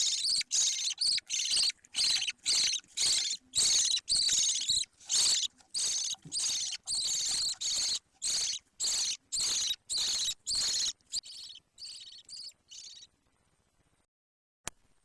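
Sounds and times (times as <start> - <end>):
budgerigar rasping calls: 0.0 - 13.1.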